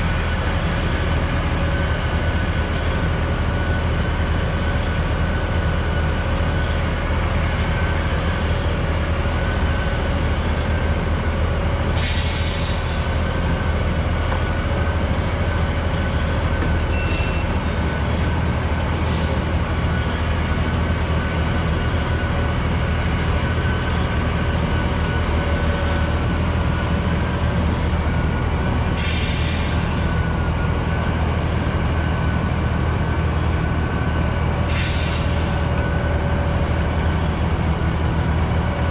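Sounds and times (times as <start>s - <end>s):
heavy diesel equipment running: 0.0s - 38.9s.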